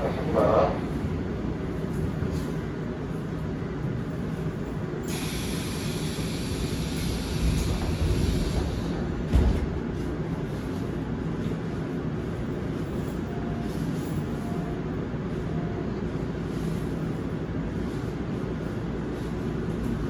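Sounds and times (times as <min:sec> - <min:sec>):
electric train interior rumble: 0:00.0 - 0:20.0.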